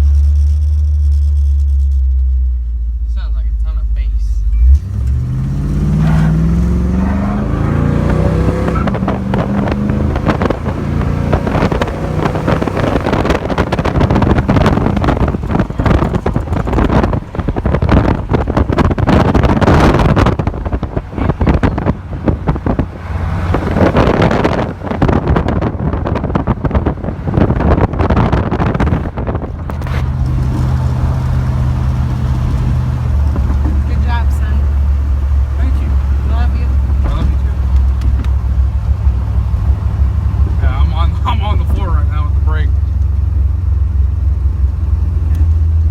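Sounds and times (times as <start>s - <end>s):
car engine accelerating: 0.0s - 45.9s
wind and road noise: 0.0s - 45.9s.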